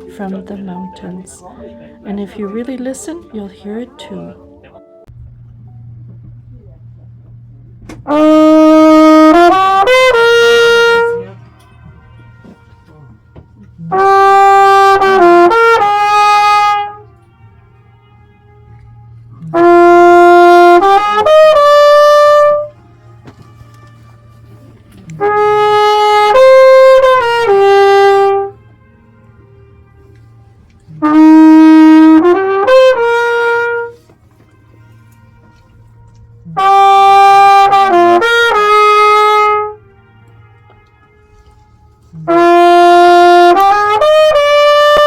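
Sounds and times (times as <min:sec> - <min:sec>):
trumpet playing slow song: 0:08.0 - 0:45.0
trumpet echo from mountains: 0:08.1 - 0:45.0.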